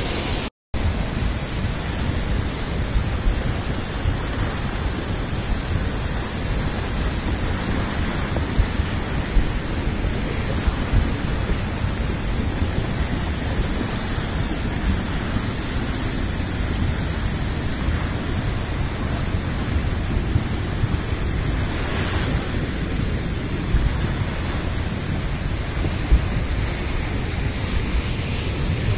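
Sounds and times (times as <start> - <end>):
stream rushing: 0.0 - 28.9.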